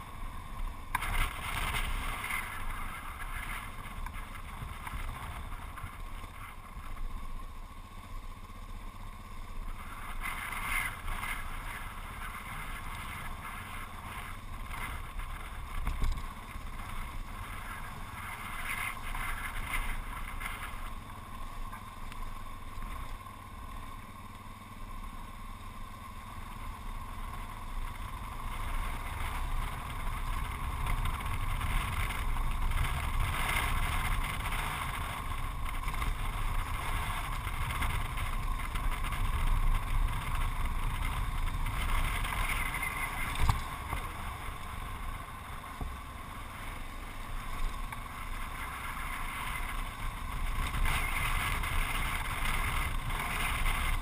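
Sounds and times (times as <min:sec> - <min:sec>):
motorcycle engine running: 0:00.0 - 0:54.0
road and wind rumble: 0:00.0 - 0:54.0.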